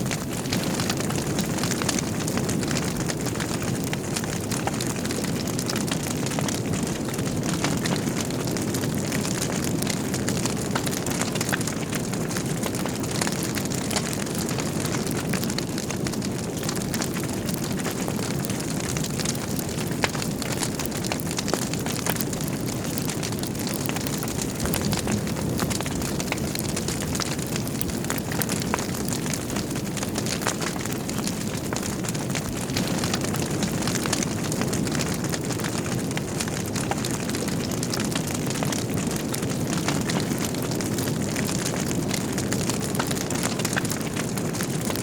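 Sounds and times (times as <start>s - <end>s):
fire flames rushing: 0.0s - 45.0s
logs crackling and popping: 0.0s - 45.0s.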